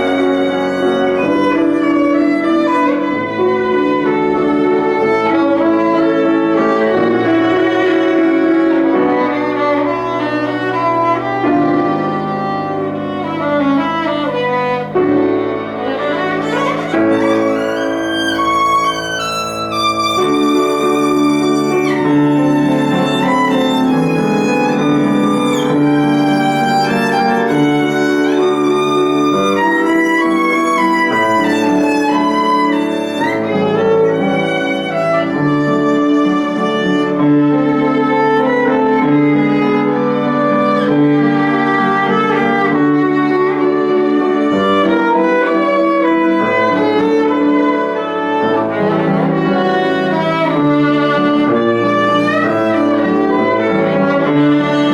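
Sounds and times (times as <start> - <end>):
lower accompaniment: 0.0 - 54.9
violin melody with vibrato: 0.0 - 54.9.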